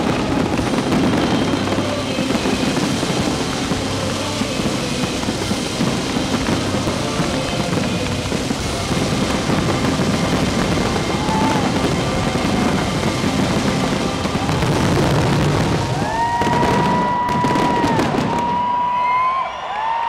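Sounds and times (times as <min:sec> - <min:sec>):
loud music: 0:00.0 - 0:18.4
fireworks crackling and banging: 0:00.0 - 0:19.4.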